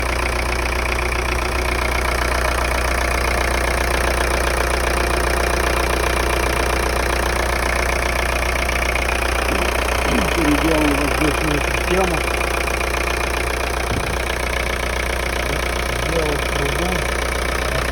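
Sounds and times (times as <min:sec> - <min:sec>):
diesel engine idling with clatter: 0:00.0 - 0:17.9.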